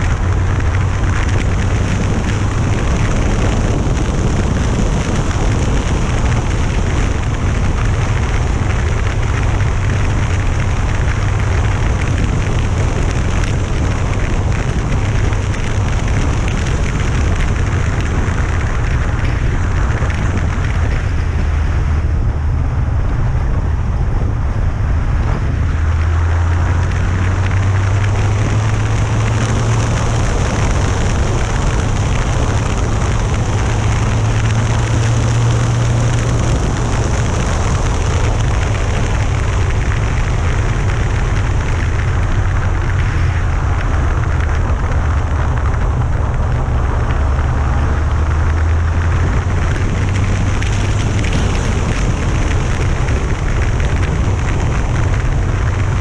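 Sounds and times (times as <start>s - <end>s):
motorcycle engine drone: 0.0s - 56.0s
wind rush on microphone: 0.0s - 56.0s.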